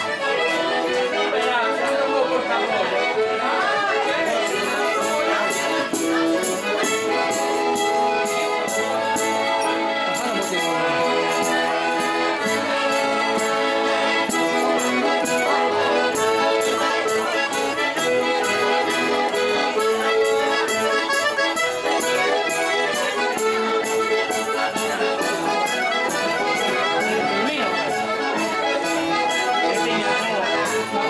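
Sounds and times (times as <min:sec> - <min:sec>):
accordion playing lively tune: 0:00.0 - 0:31.0.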